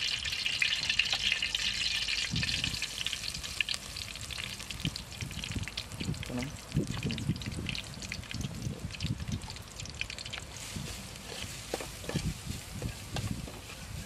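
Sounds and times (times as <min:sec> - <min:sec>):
curry paste frying in a pot: 0:00.0 - 0:14.0.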